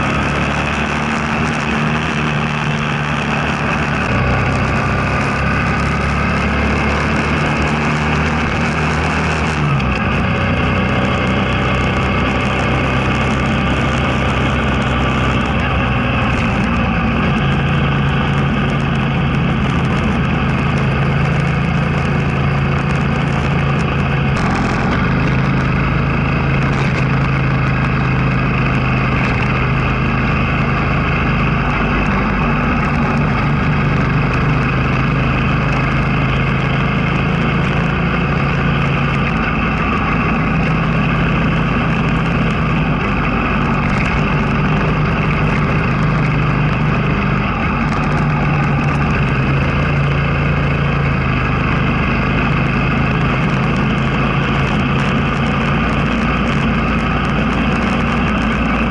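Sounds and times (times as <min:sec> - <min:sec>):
constant rushing noise: 0:00.0 - 0:58.9
motorcycle engine drone: 0:00.0 - 0:58.9.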